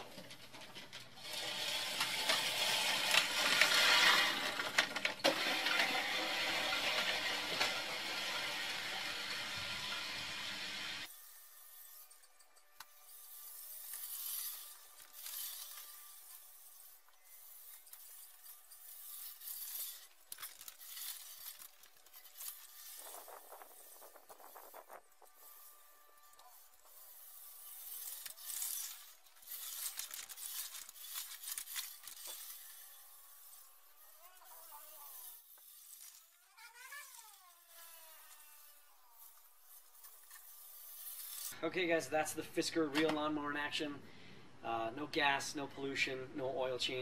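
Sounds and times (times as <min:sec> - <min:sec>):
push reel mower cutting grass: 0:00.0 - 0:41.6.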